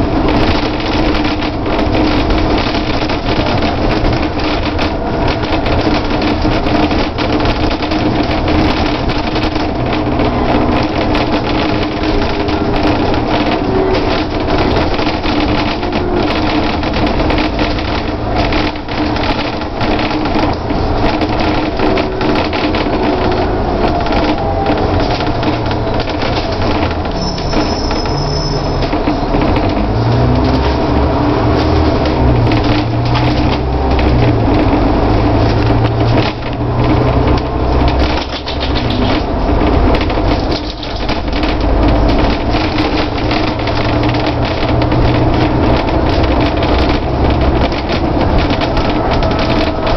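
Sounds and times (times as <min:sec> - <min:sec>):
bodywork rattling: 0:00.0 - 0:49.9
bus diesel engine running: 0:00.0 - 0:49.9
road noise: 0:00.0 - 0:49.9.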